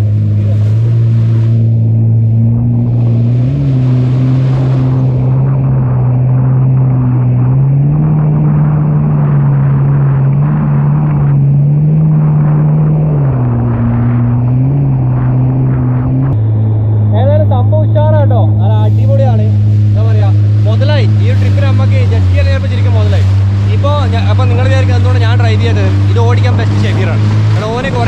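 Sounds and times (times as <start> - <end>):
jet ski engine running hard: 0.0 - 28.0
water rushing and spraying: 0.0 - 28.0.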